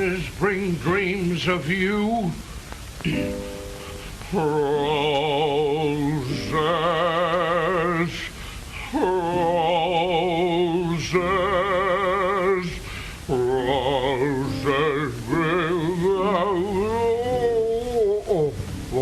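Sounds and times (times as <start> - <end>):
man singing with heavy vibrato: 0.0 - 3.4, 4.0 - 19.0.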